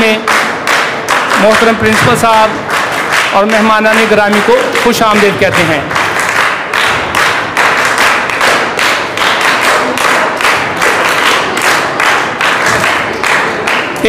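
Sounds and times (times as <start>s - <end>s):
audience clapping in rhythm: 0.0s - 14.0s.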